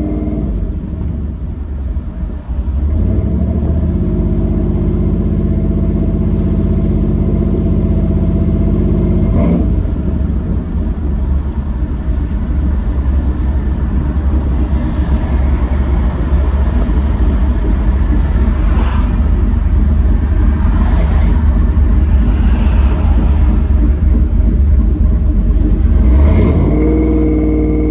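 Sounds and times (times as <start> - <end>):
engine heard from inside cab: 0.0 - 27.9
low exhaust rumble: 0.0 - 27.9.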